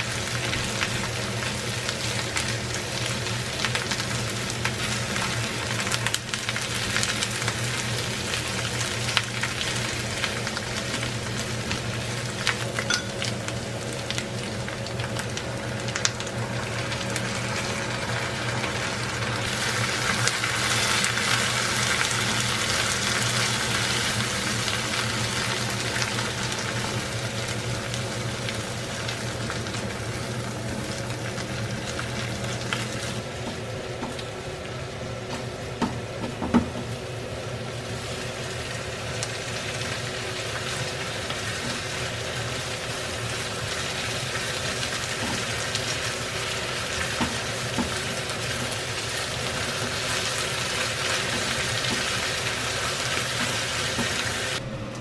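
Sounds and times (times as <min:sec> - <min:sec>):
food sizzling in a frying pan: 0:00.0 - 0:54.6
steady low hum: 0:00.0 - 0:55.0.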